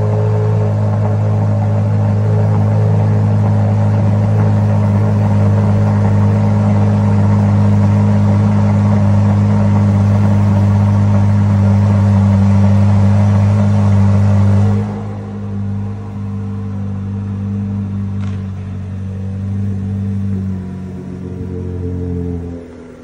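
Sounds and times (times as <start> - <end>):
sports car engine idling: 0.0 - 23.0.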